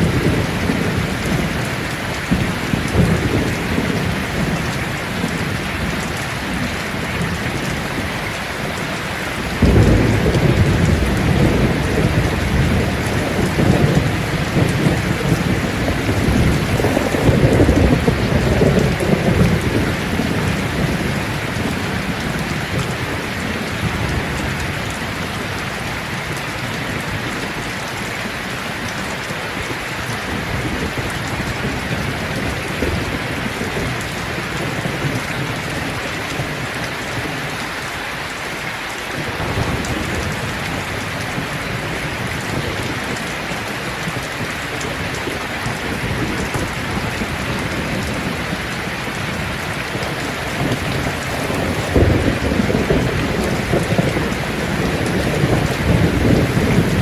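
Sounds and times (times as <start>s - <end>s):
thunder rumbling: 0.0s - 37.3s, 39.2s - 57.0s
rain falling on leaves: 0.0s - 57.0s.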